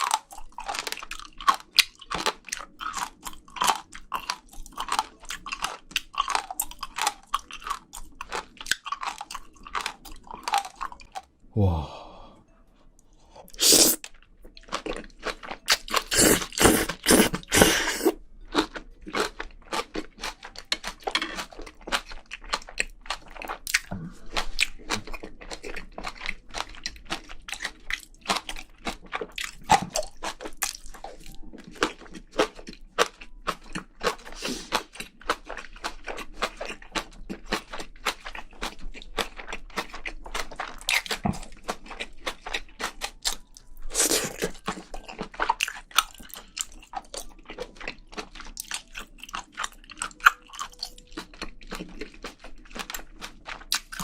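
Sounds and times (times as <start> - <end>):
person chewing and crunching food: 0.0 - 12.2, 13.1 - 54.0.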